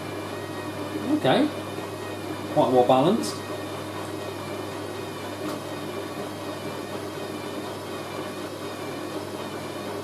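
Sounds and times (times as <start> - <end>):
washing machine spinning: 0.0 - 10.0.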